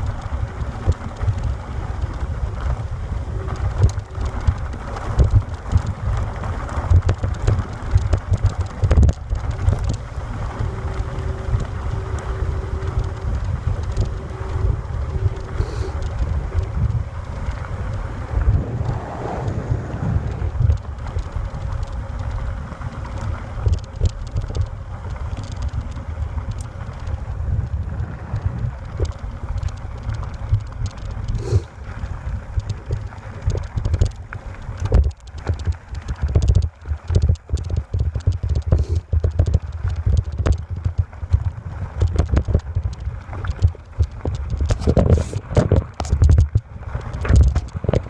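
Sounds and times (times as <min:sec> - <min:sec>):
clicks and rattles: 0:00.0 - 0:18.6, 0:20.3 - 0:48.0
faint steady hum: 0:00.0 - 0:48.0
wind buffeting the microphone: 0:00.0 - 0:48.0.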